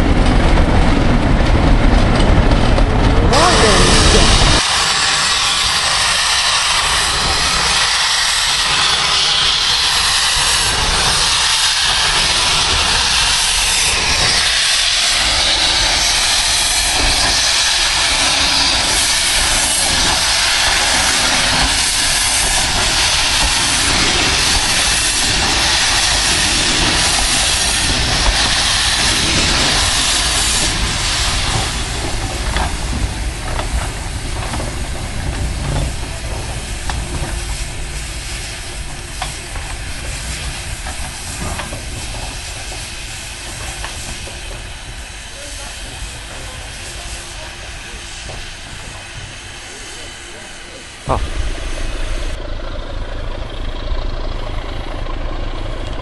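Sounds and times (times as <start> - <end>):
steam locomotive hissing steam: 3.3 - 52.8.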